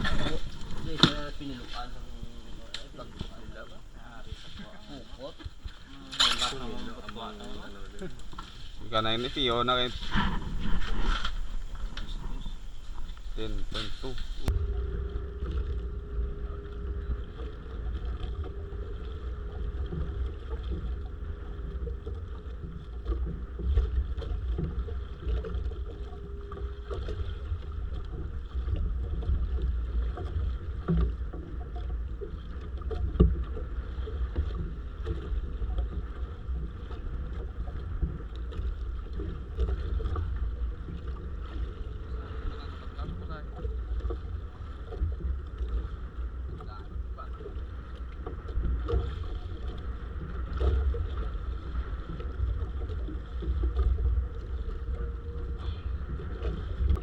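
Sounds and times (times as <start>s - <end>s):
boat engine droning: 0.0s - 57.0s
wind rumbling on microphone: 0.0s - 57.0s.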